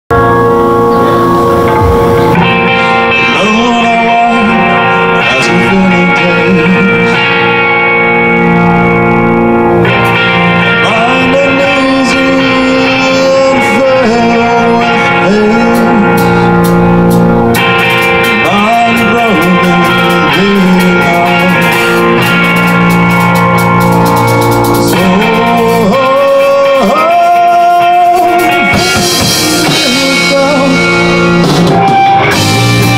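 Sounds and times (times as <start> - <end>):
electric guitars bending notes: 0.1 - 32.9
metal band playing live: 0.1 - 32.9.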